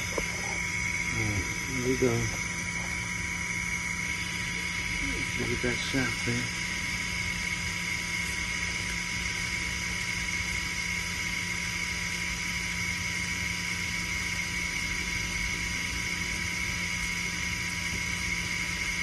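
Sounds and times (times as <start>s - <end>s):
mechanical hum with high whine: 0.0s - 19.0s.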